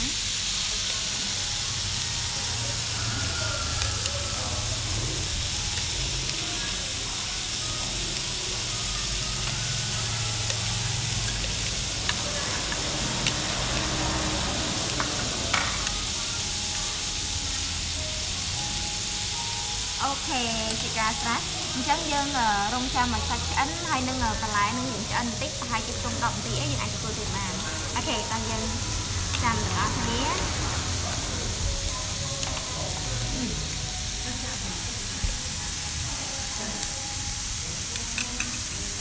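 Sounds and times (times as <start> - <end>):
meat sizzling on grill pan: 0.0 - 39.0.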